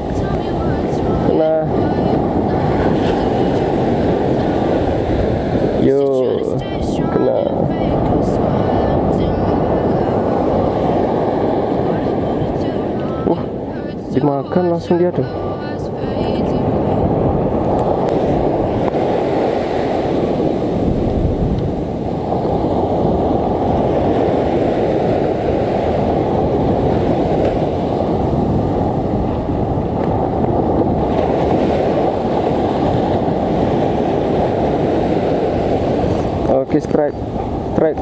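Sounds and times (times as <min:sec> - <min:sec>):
surf breaking on beach: 0:00.0 - 0:38.0
wind buffeting microphone: 0:00.0 - 0:38.0.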